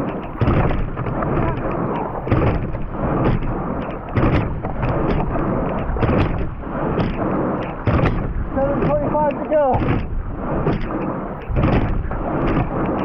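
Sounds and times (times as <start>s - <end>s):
sharp knocks: 0.0s - 13.0s
water rushing and splashing: 0.0s - 13.0s
wind on microphone: 0.0s - 13.0s.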